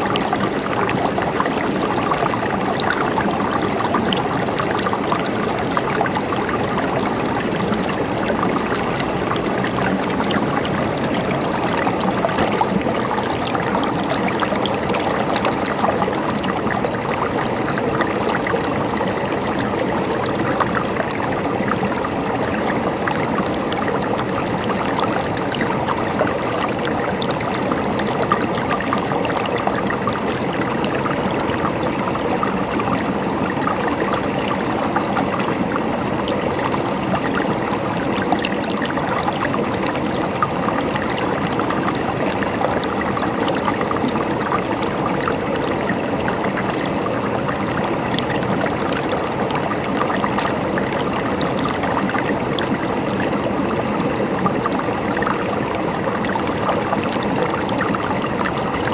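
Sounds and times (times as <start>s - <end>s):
stream running over rocks: 0.0s - 58.9s.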